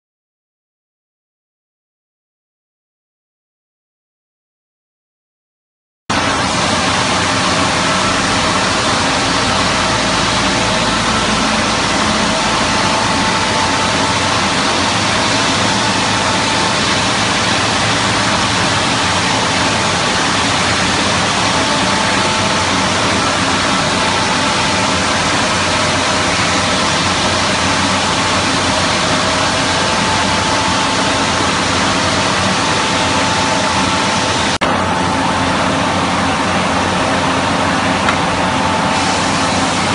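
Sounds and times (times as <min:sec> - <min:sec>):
faint whine: 0:06.1 - 0:39.9
machinery running: 0:06.1 - 0:39.9.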